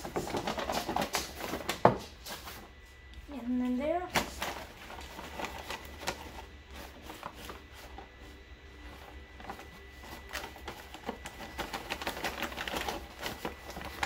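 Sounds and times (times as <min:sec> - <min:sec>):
paper bag rustling and crinkling: 0:00.0 - 0:14.0.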